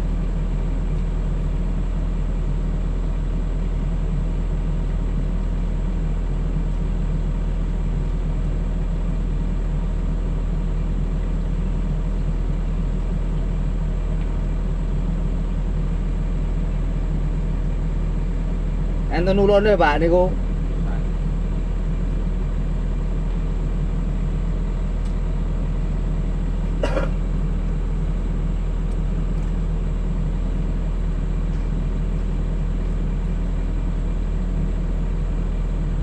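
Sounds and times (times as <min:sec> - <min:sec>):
engine droning steadily: 0:00.0 - 0:36.0.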